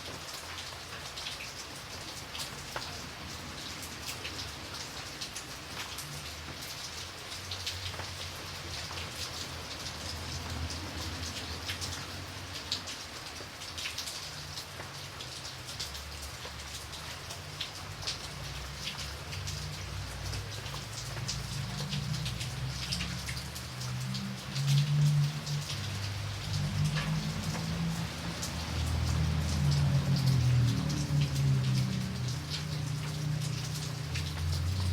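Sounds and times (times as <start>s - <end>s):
raindrops hitting a surface: 0.0s - 34.9s.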